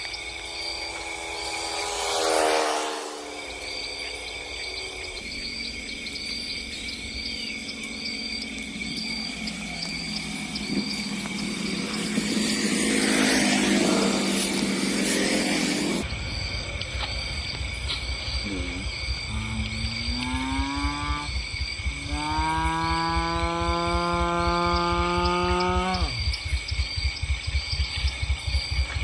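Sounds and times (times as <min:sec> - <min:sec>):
high insect drone: 0:00.0 - 0:29.0
insects chirping: 0:00.0 - 0:29.0
low humming tone: 0:00.0 - 0:29.0.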